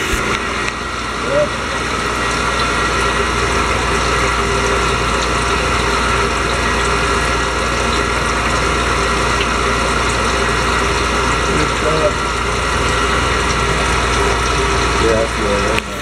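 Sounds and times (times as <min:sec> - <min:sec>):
steady machine hum: 0:00.0 - 0:16.0
water churning in a tank: 0:00.0 - 0:16.0.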